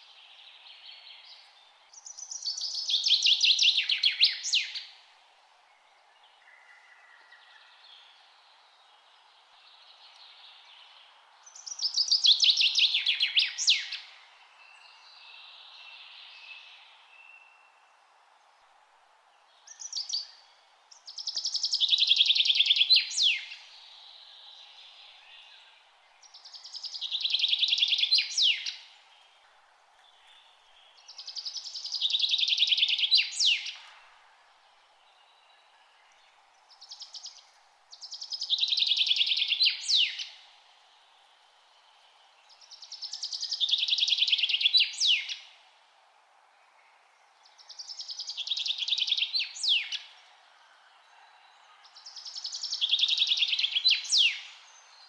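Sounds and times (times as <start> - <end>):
songbird singing trills: 0.0 - 5.0, 5.8 - 17.9, 19.6 - 29.4, 30.0 - 34.0, 34.8 - 45.6, 46.6 - 55.0
faint steady hiss: 0.0 - 55.0.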